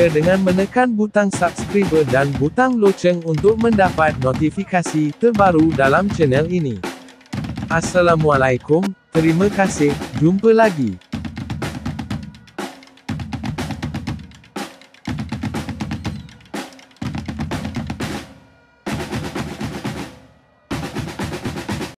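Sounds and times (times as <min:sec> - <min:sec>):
drum-heavy background music: 0:00.0 - 0:22.0.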